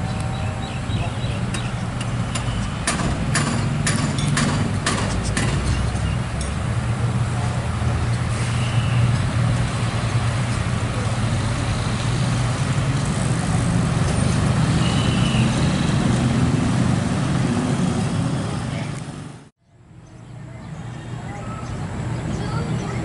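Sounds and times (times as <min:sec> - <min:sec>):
large vehicle engine humming: 0:00.0 - 0:23.0
passing traffic: 0:00.0 - 0:23.0.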